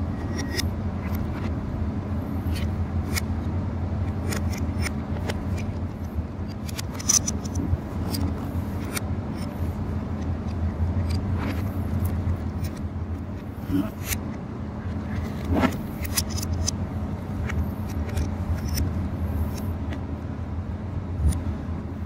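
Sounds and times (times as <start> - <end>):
low machinery hum: 0.0 - 22.0
metallic clicks and scrapes: 0.1 - 1.6, 2.3 - 16.8, 17.4 - 20.0, 21.2 - 21.5.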